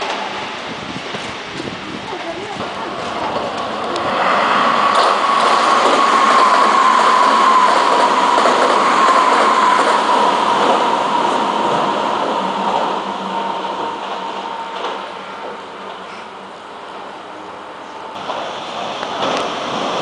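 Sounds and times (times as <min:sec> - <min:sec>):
high train whine: 0:00.0 - 0:20.0
train wheels rumbling on rail: 0:00.0 - 0:20.0.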